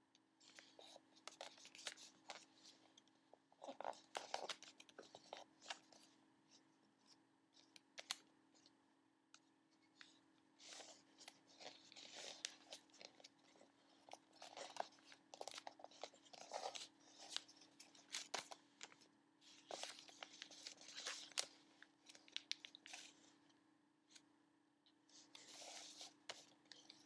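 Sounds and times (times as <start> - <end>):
paper rustling and crinkling: 0.4 - 3.0, 3.6 - 8.7, 9.9 - 23.4, 25.1 - 27.0.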